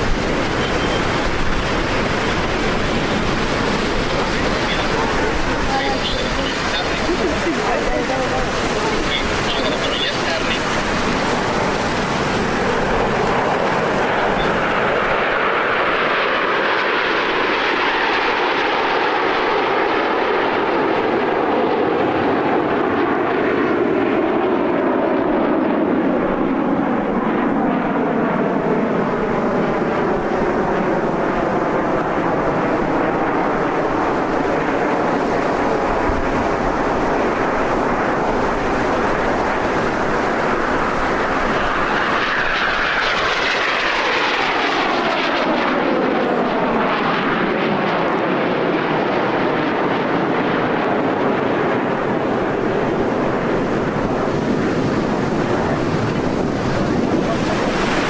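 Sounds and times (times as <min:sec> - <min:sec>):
jets flying past: 0:00.0 - 0:58.0.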